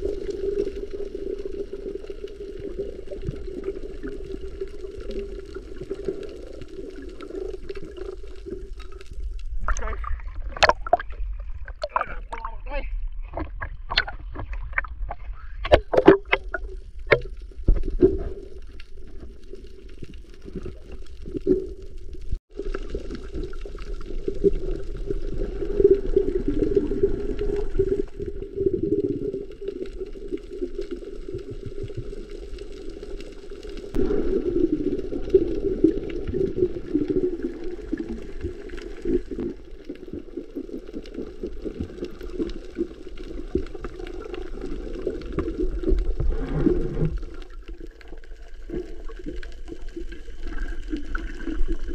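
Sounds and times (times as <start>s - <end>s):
faint underwater crackling: 0.0s - 51.9s
muffled underwater rush: 0.0s - 51.9s.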